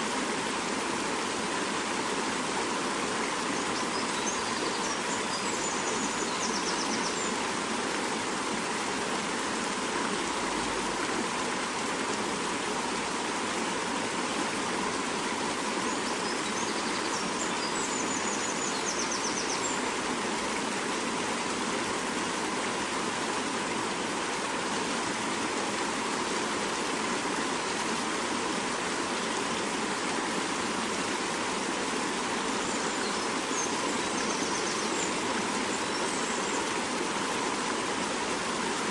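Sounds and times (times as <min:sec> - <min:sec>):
mountain river rushing: 0:00.0 - 0:38.9.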